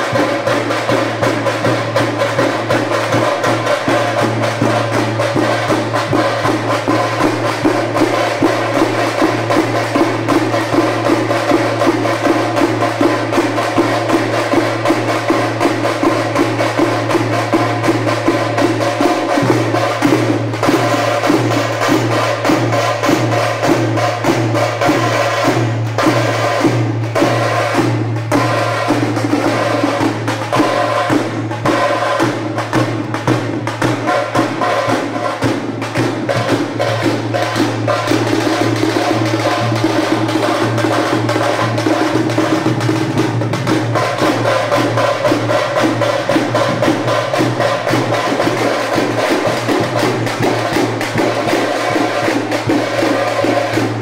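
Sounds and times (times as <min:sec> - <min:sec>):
fast percussion strokes: 0:00.0 - 0:54.0.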